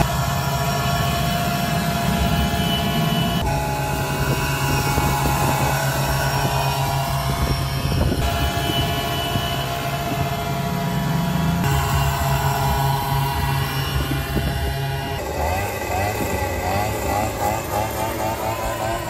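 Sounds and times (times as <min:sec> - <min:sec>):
leaf blower running: 0:00.0 - 0:19.0.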